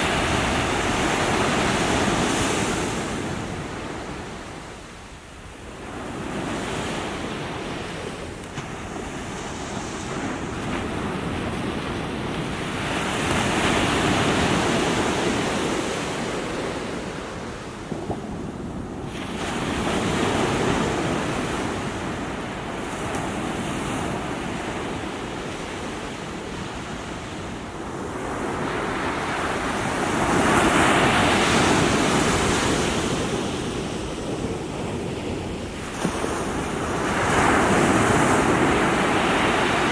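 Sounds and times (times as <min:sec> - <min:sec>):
small waves breaking on shore: 0:00.0 - 0:39.9.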